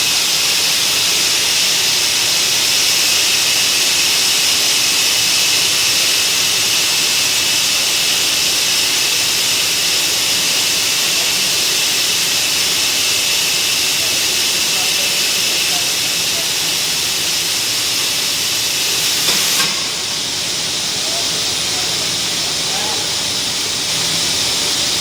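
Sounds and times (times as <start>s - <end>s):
cutting torch hissing: 0.0s - 25.0s.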